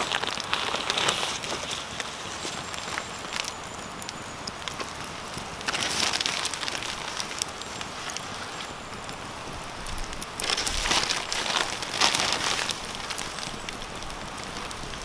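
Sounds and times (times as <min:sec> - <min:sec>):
steady frying hiss: 0:00.0 - 0:15.0.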